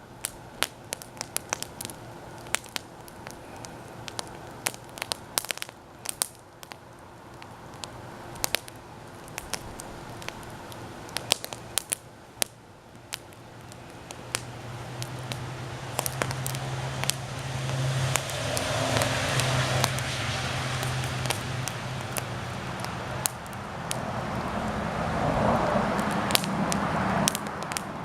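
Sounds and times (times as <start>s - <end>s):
campfire crackling and popping: 0.0s - 28.0s
low steady hum: 0.0s - 28.0s.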